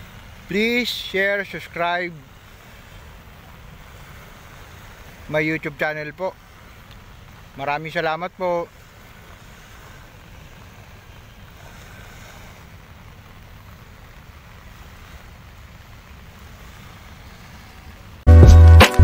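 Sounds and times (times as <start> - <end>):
small waves lapping shore: 0.0 - 18.3.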